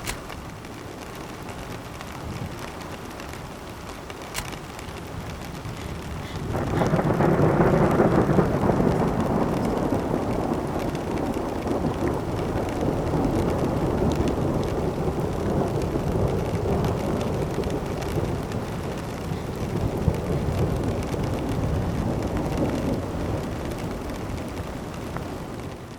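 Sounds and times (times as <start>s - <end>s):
rolling thunder: 4.5s - 25.9s.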